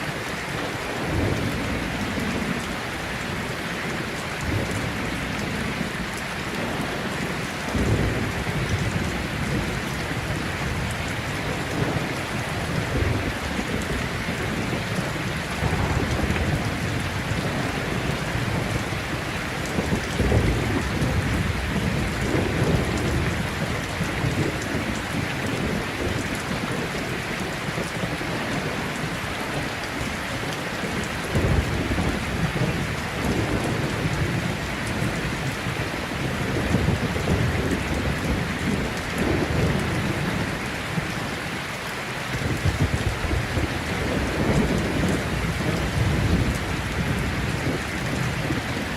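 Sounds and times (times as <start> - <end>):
heavy rain: 0.0 - 48.9
thunder rumbling: 0.6 - 41.5, 42.3 - 48.9.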